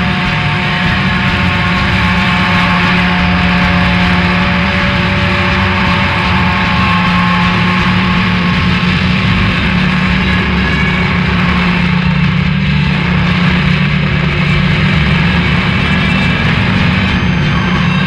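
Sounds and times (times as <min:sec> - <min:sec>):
drone music: 0:00.0 - 0:18.0.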